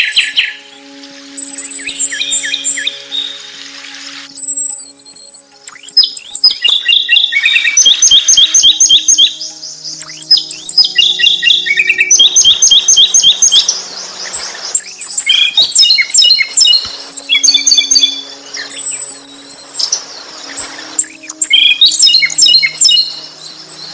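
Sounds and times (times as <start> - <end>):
long thin whistled bird note: 0.0 - 9.4, 10.0 - 23.6
songbird chirping and trilling: 0.0 - 23.9.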